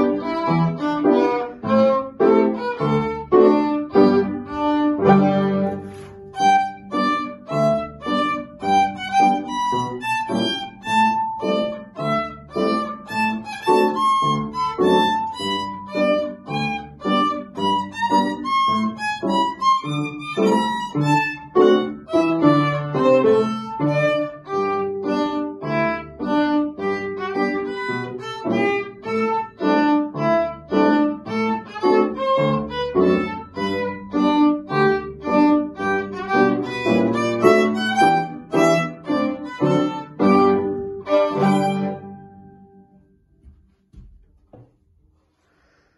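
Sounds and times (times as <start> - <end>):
violin melody: 0.0 - 42.9
piano accompaniment: 0.0 - 44.6.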